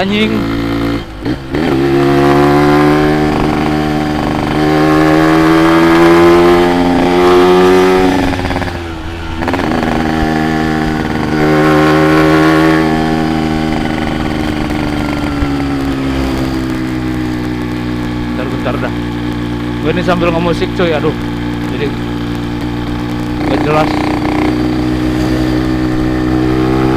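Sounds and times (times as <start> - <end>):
motorcycle engine accelerating: 0.0 - 26.9.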